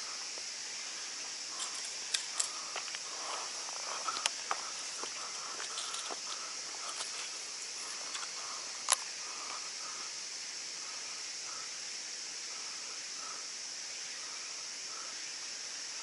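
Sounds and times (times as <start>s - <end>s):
insects hissing: 0.0s - 16.0s.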